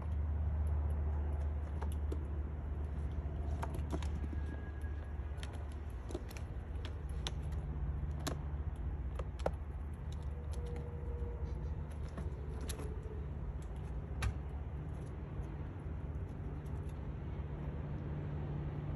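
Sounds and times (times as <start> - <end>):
low background rumble: 0.0 - 18.9
squirrel claws scratching cardboard: 0.9 - 17.1.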